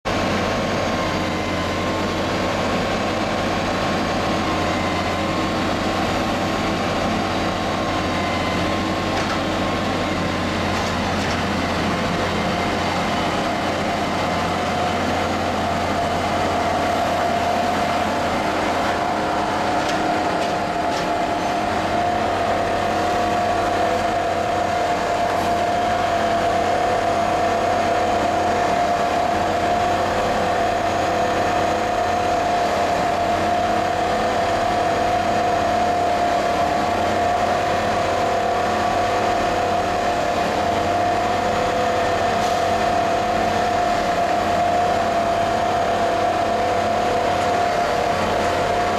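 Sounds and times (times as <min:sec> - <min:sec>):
track machine drone and whine: 0:00.1 - 0:48.9.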